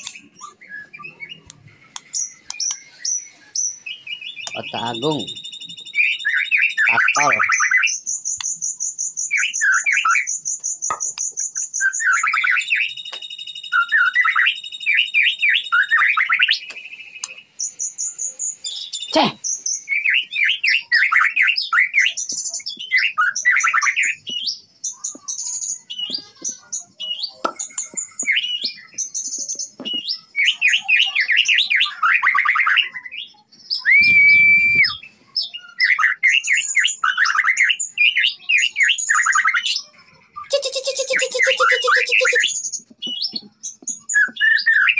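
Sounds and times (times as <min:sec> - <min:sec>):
bird singing varied song: 0:00.0 - 0:44.9.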